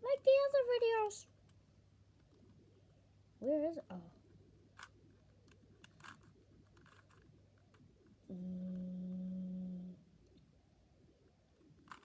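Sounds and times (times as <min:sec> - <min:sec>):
steady even-pitched hum: 0:00.0 - 0:12.0.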